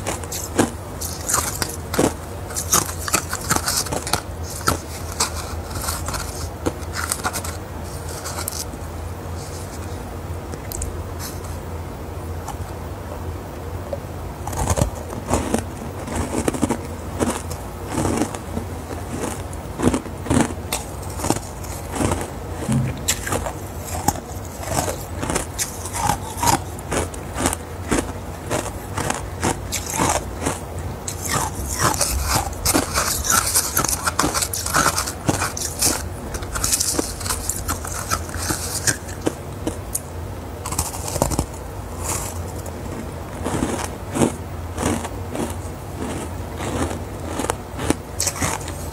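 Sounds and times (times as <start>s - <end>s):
ice crunching while chewed: 0.0s - 8.8s, 14.4s - 48.9s
low steady hum: 0.0s - 48.9s.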